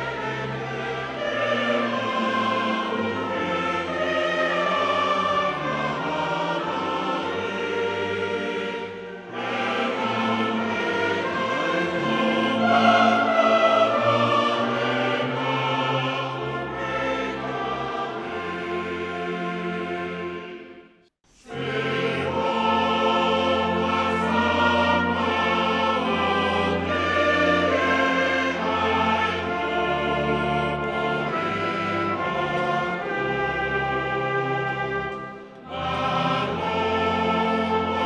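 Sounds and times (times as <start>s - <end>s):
choir singing with orchestra: 0.0s - 38.0s.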